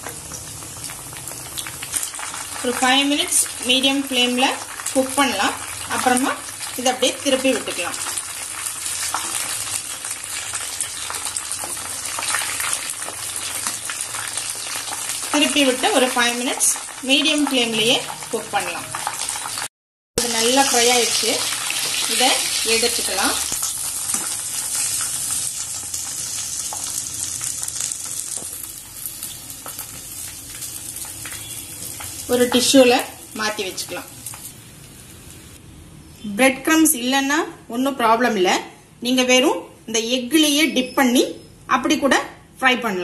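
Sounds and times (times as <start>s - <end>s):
chicken sizzling in hot oil: 0.0s - 35.6s.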